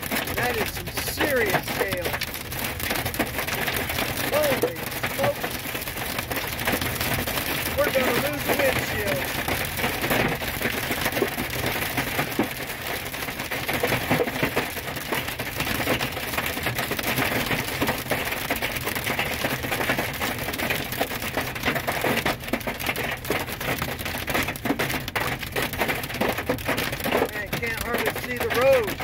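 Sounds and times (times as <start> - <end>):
hail clattering on a windshield: 0.0 - 29.0.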